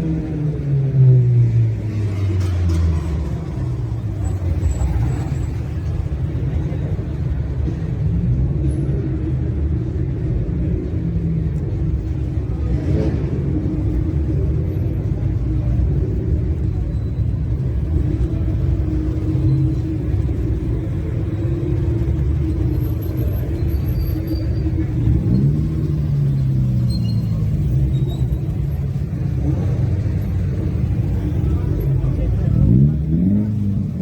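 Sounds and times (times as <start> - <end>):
car engine and exhaust rumbling: 0.0 - 34.0.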